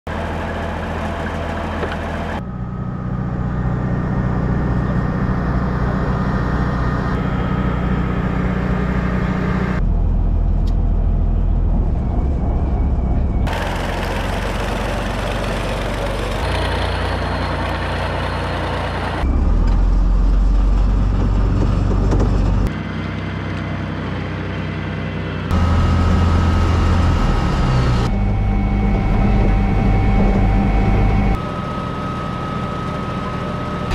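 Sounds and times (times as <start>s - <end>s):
tracked vehicle engine rumbling: 0.1s - 33.9s.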